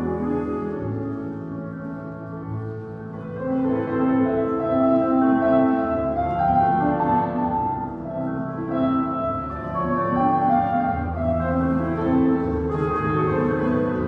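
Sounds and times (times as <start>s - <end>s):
classical orchestral music: 0.0s - 14.0s.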